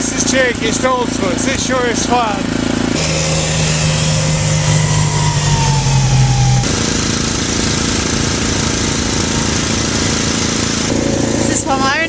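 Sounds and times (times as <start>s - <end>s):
snowblower engine running: 0.0s - 12.0s.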